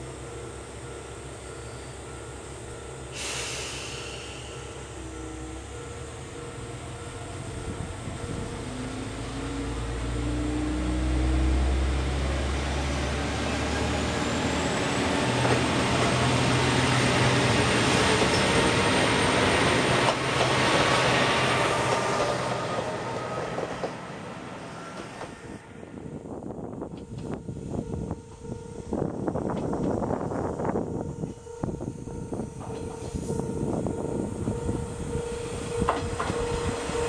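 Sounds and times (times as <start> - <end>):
diesel railcar engine passing: 0.0 - 37.0.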